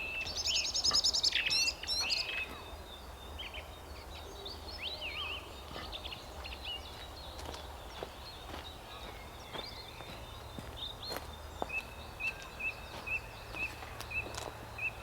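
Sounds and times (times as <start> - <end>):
songbirds calling: 0.0 - 15.0.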